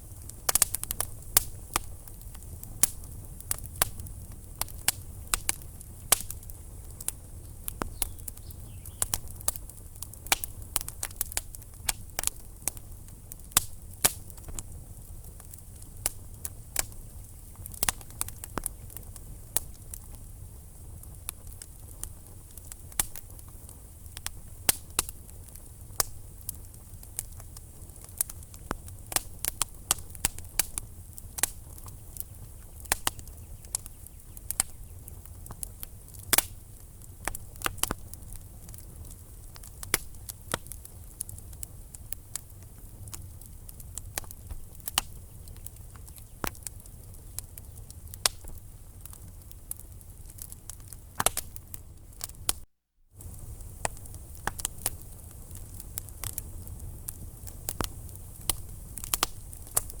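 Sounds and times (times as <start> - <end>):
low rumble of flame: 0.0 - 60.0
wood fire crackling and popping: 0.0 - 60.0.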